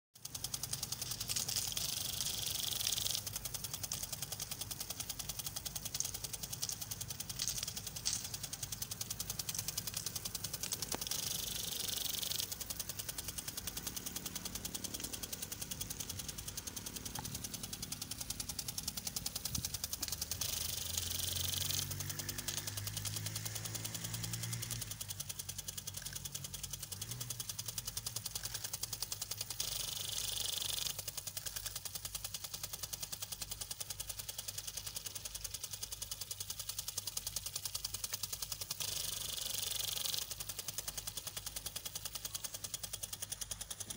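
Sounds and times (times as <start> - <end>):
impact sprinklers ticking: 0.2 - 43.9
water spray hiss: 0.2 - 43.9.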